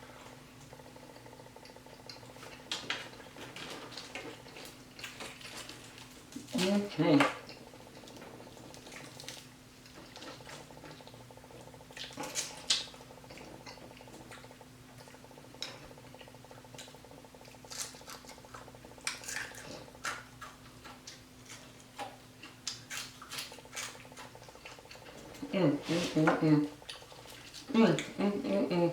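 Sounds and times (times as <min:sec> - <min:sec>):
wet chewing: 0:00.3 - 0:28.5.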